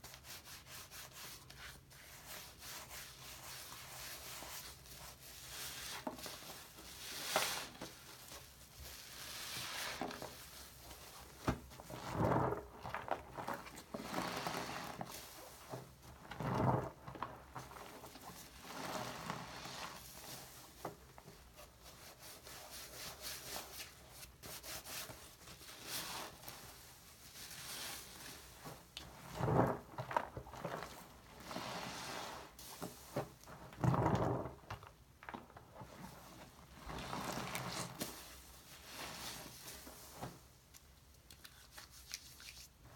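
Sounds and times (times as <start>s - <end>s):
sponge squishing in soapy water: 0.0s - 42.9s.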